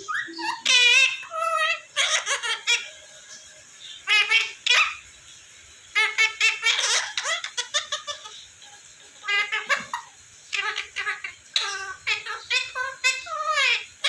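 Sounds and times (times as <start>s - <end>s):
parrot chattering: 0.0s - 14.0s.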